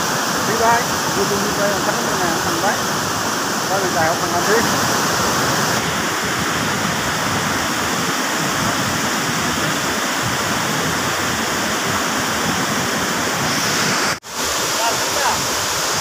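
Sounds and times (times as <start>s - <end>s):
river running over rocks: 0.0s - 16.0s
waterfall rushing: 0.0s - 16.0s.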